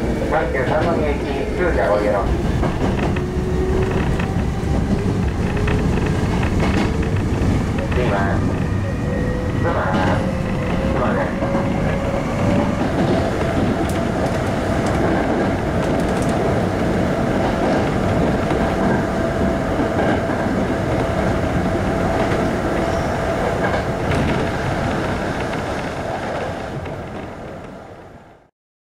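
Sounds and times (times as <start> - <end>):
train wheels rumbling on rail: 0.0 - 28.4.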